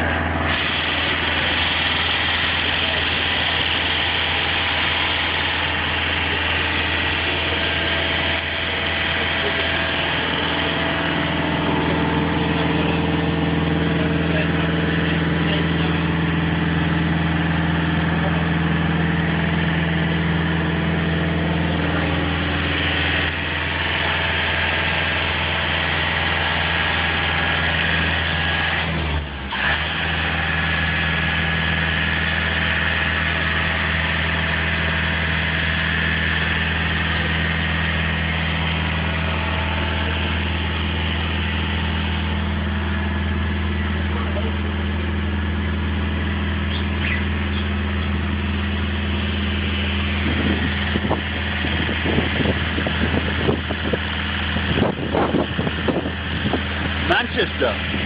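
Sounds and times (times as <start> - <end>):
high steady whine: 0.0 - 58.0
work platform engine running: 0.0 - 58.0.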